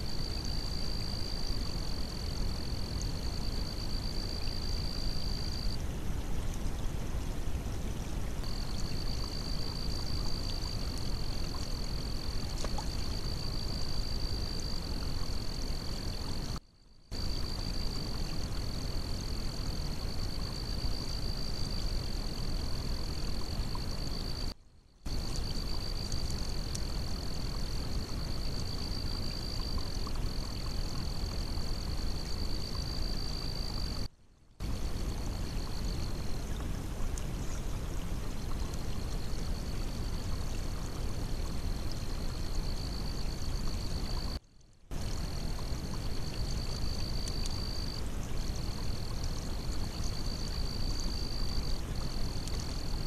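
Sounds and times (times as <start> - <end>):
constant hiss: 0.0 - 53.0.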